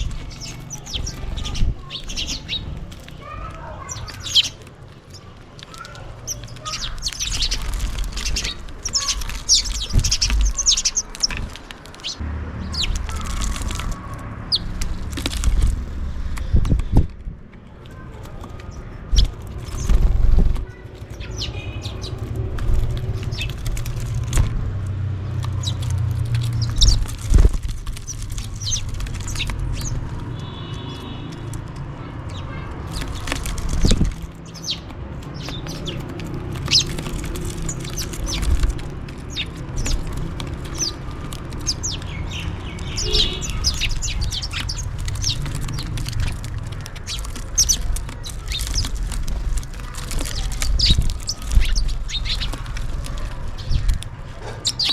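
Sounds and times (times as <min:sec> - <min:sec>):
sparrows chirping: 0:00.0 - 0:54.9.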